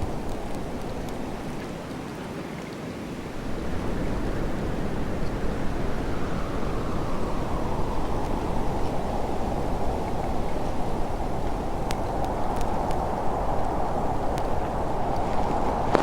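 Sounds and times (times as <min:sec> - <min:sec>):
wind gusting through forest: 0:00.0 - 0:16.0.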